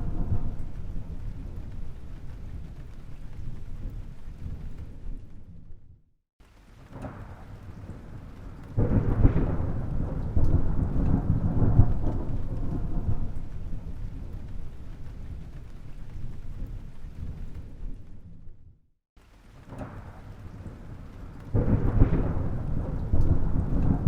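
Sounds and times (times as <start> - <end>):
thunder rumbling and cracking: 0.0 - 6.0, 6.6 - 18.8, 19.5 - 24.0.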